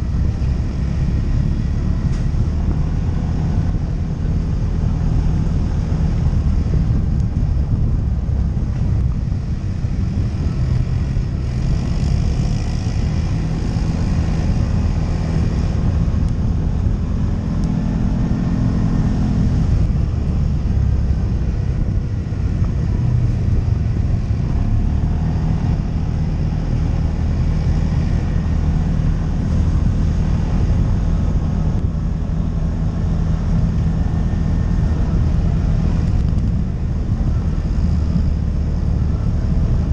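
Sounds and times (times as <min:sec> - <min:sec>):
atv engine droning: 0:00.0 - 0:39.9.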